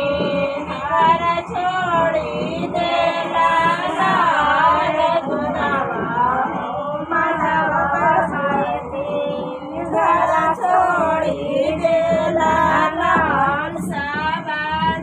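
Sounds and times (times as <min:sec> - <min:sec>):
person singing with music: 0:00.0 - 0:15.0.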